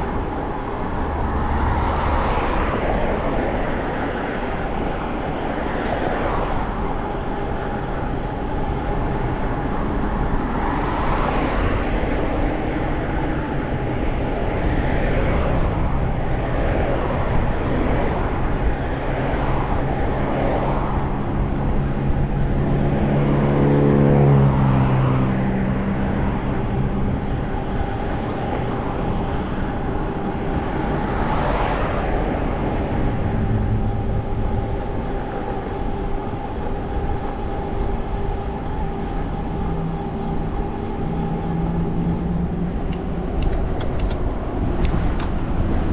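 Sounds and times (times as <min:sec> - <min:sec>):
road and tyre noise: 0:00.0 - 0:45.9.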